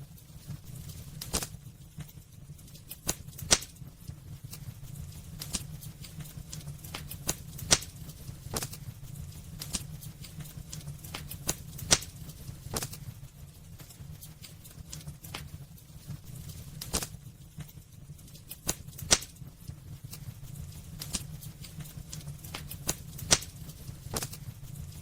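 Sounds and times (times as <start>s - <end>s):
fire crackling and popping: 0.0s - 25.0s
low rumble of fire: 0.0s - 25.0s.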